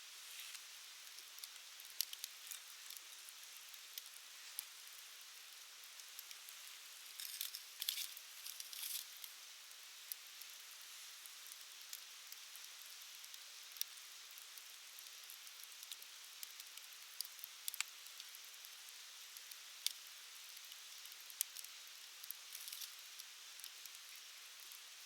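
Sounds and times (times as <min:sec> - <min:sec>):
campfire hissing: 0:00.0 - 0:25.0
fire crackling and popping: 0:00.2 - 0:10.6, 0:11.2 - 0:25.0.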